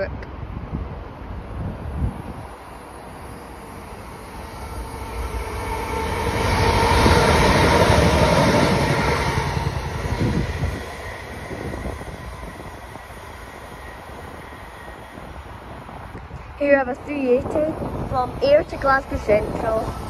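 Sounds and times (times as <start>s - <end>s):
electric train hum: 0.0s - 20.0s
train rumbling on rails: 0.0s - 20.0s.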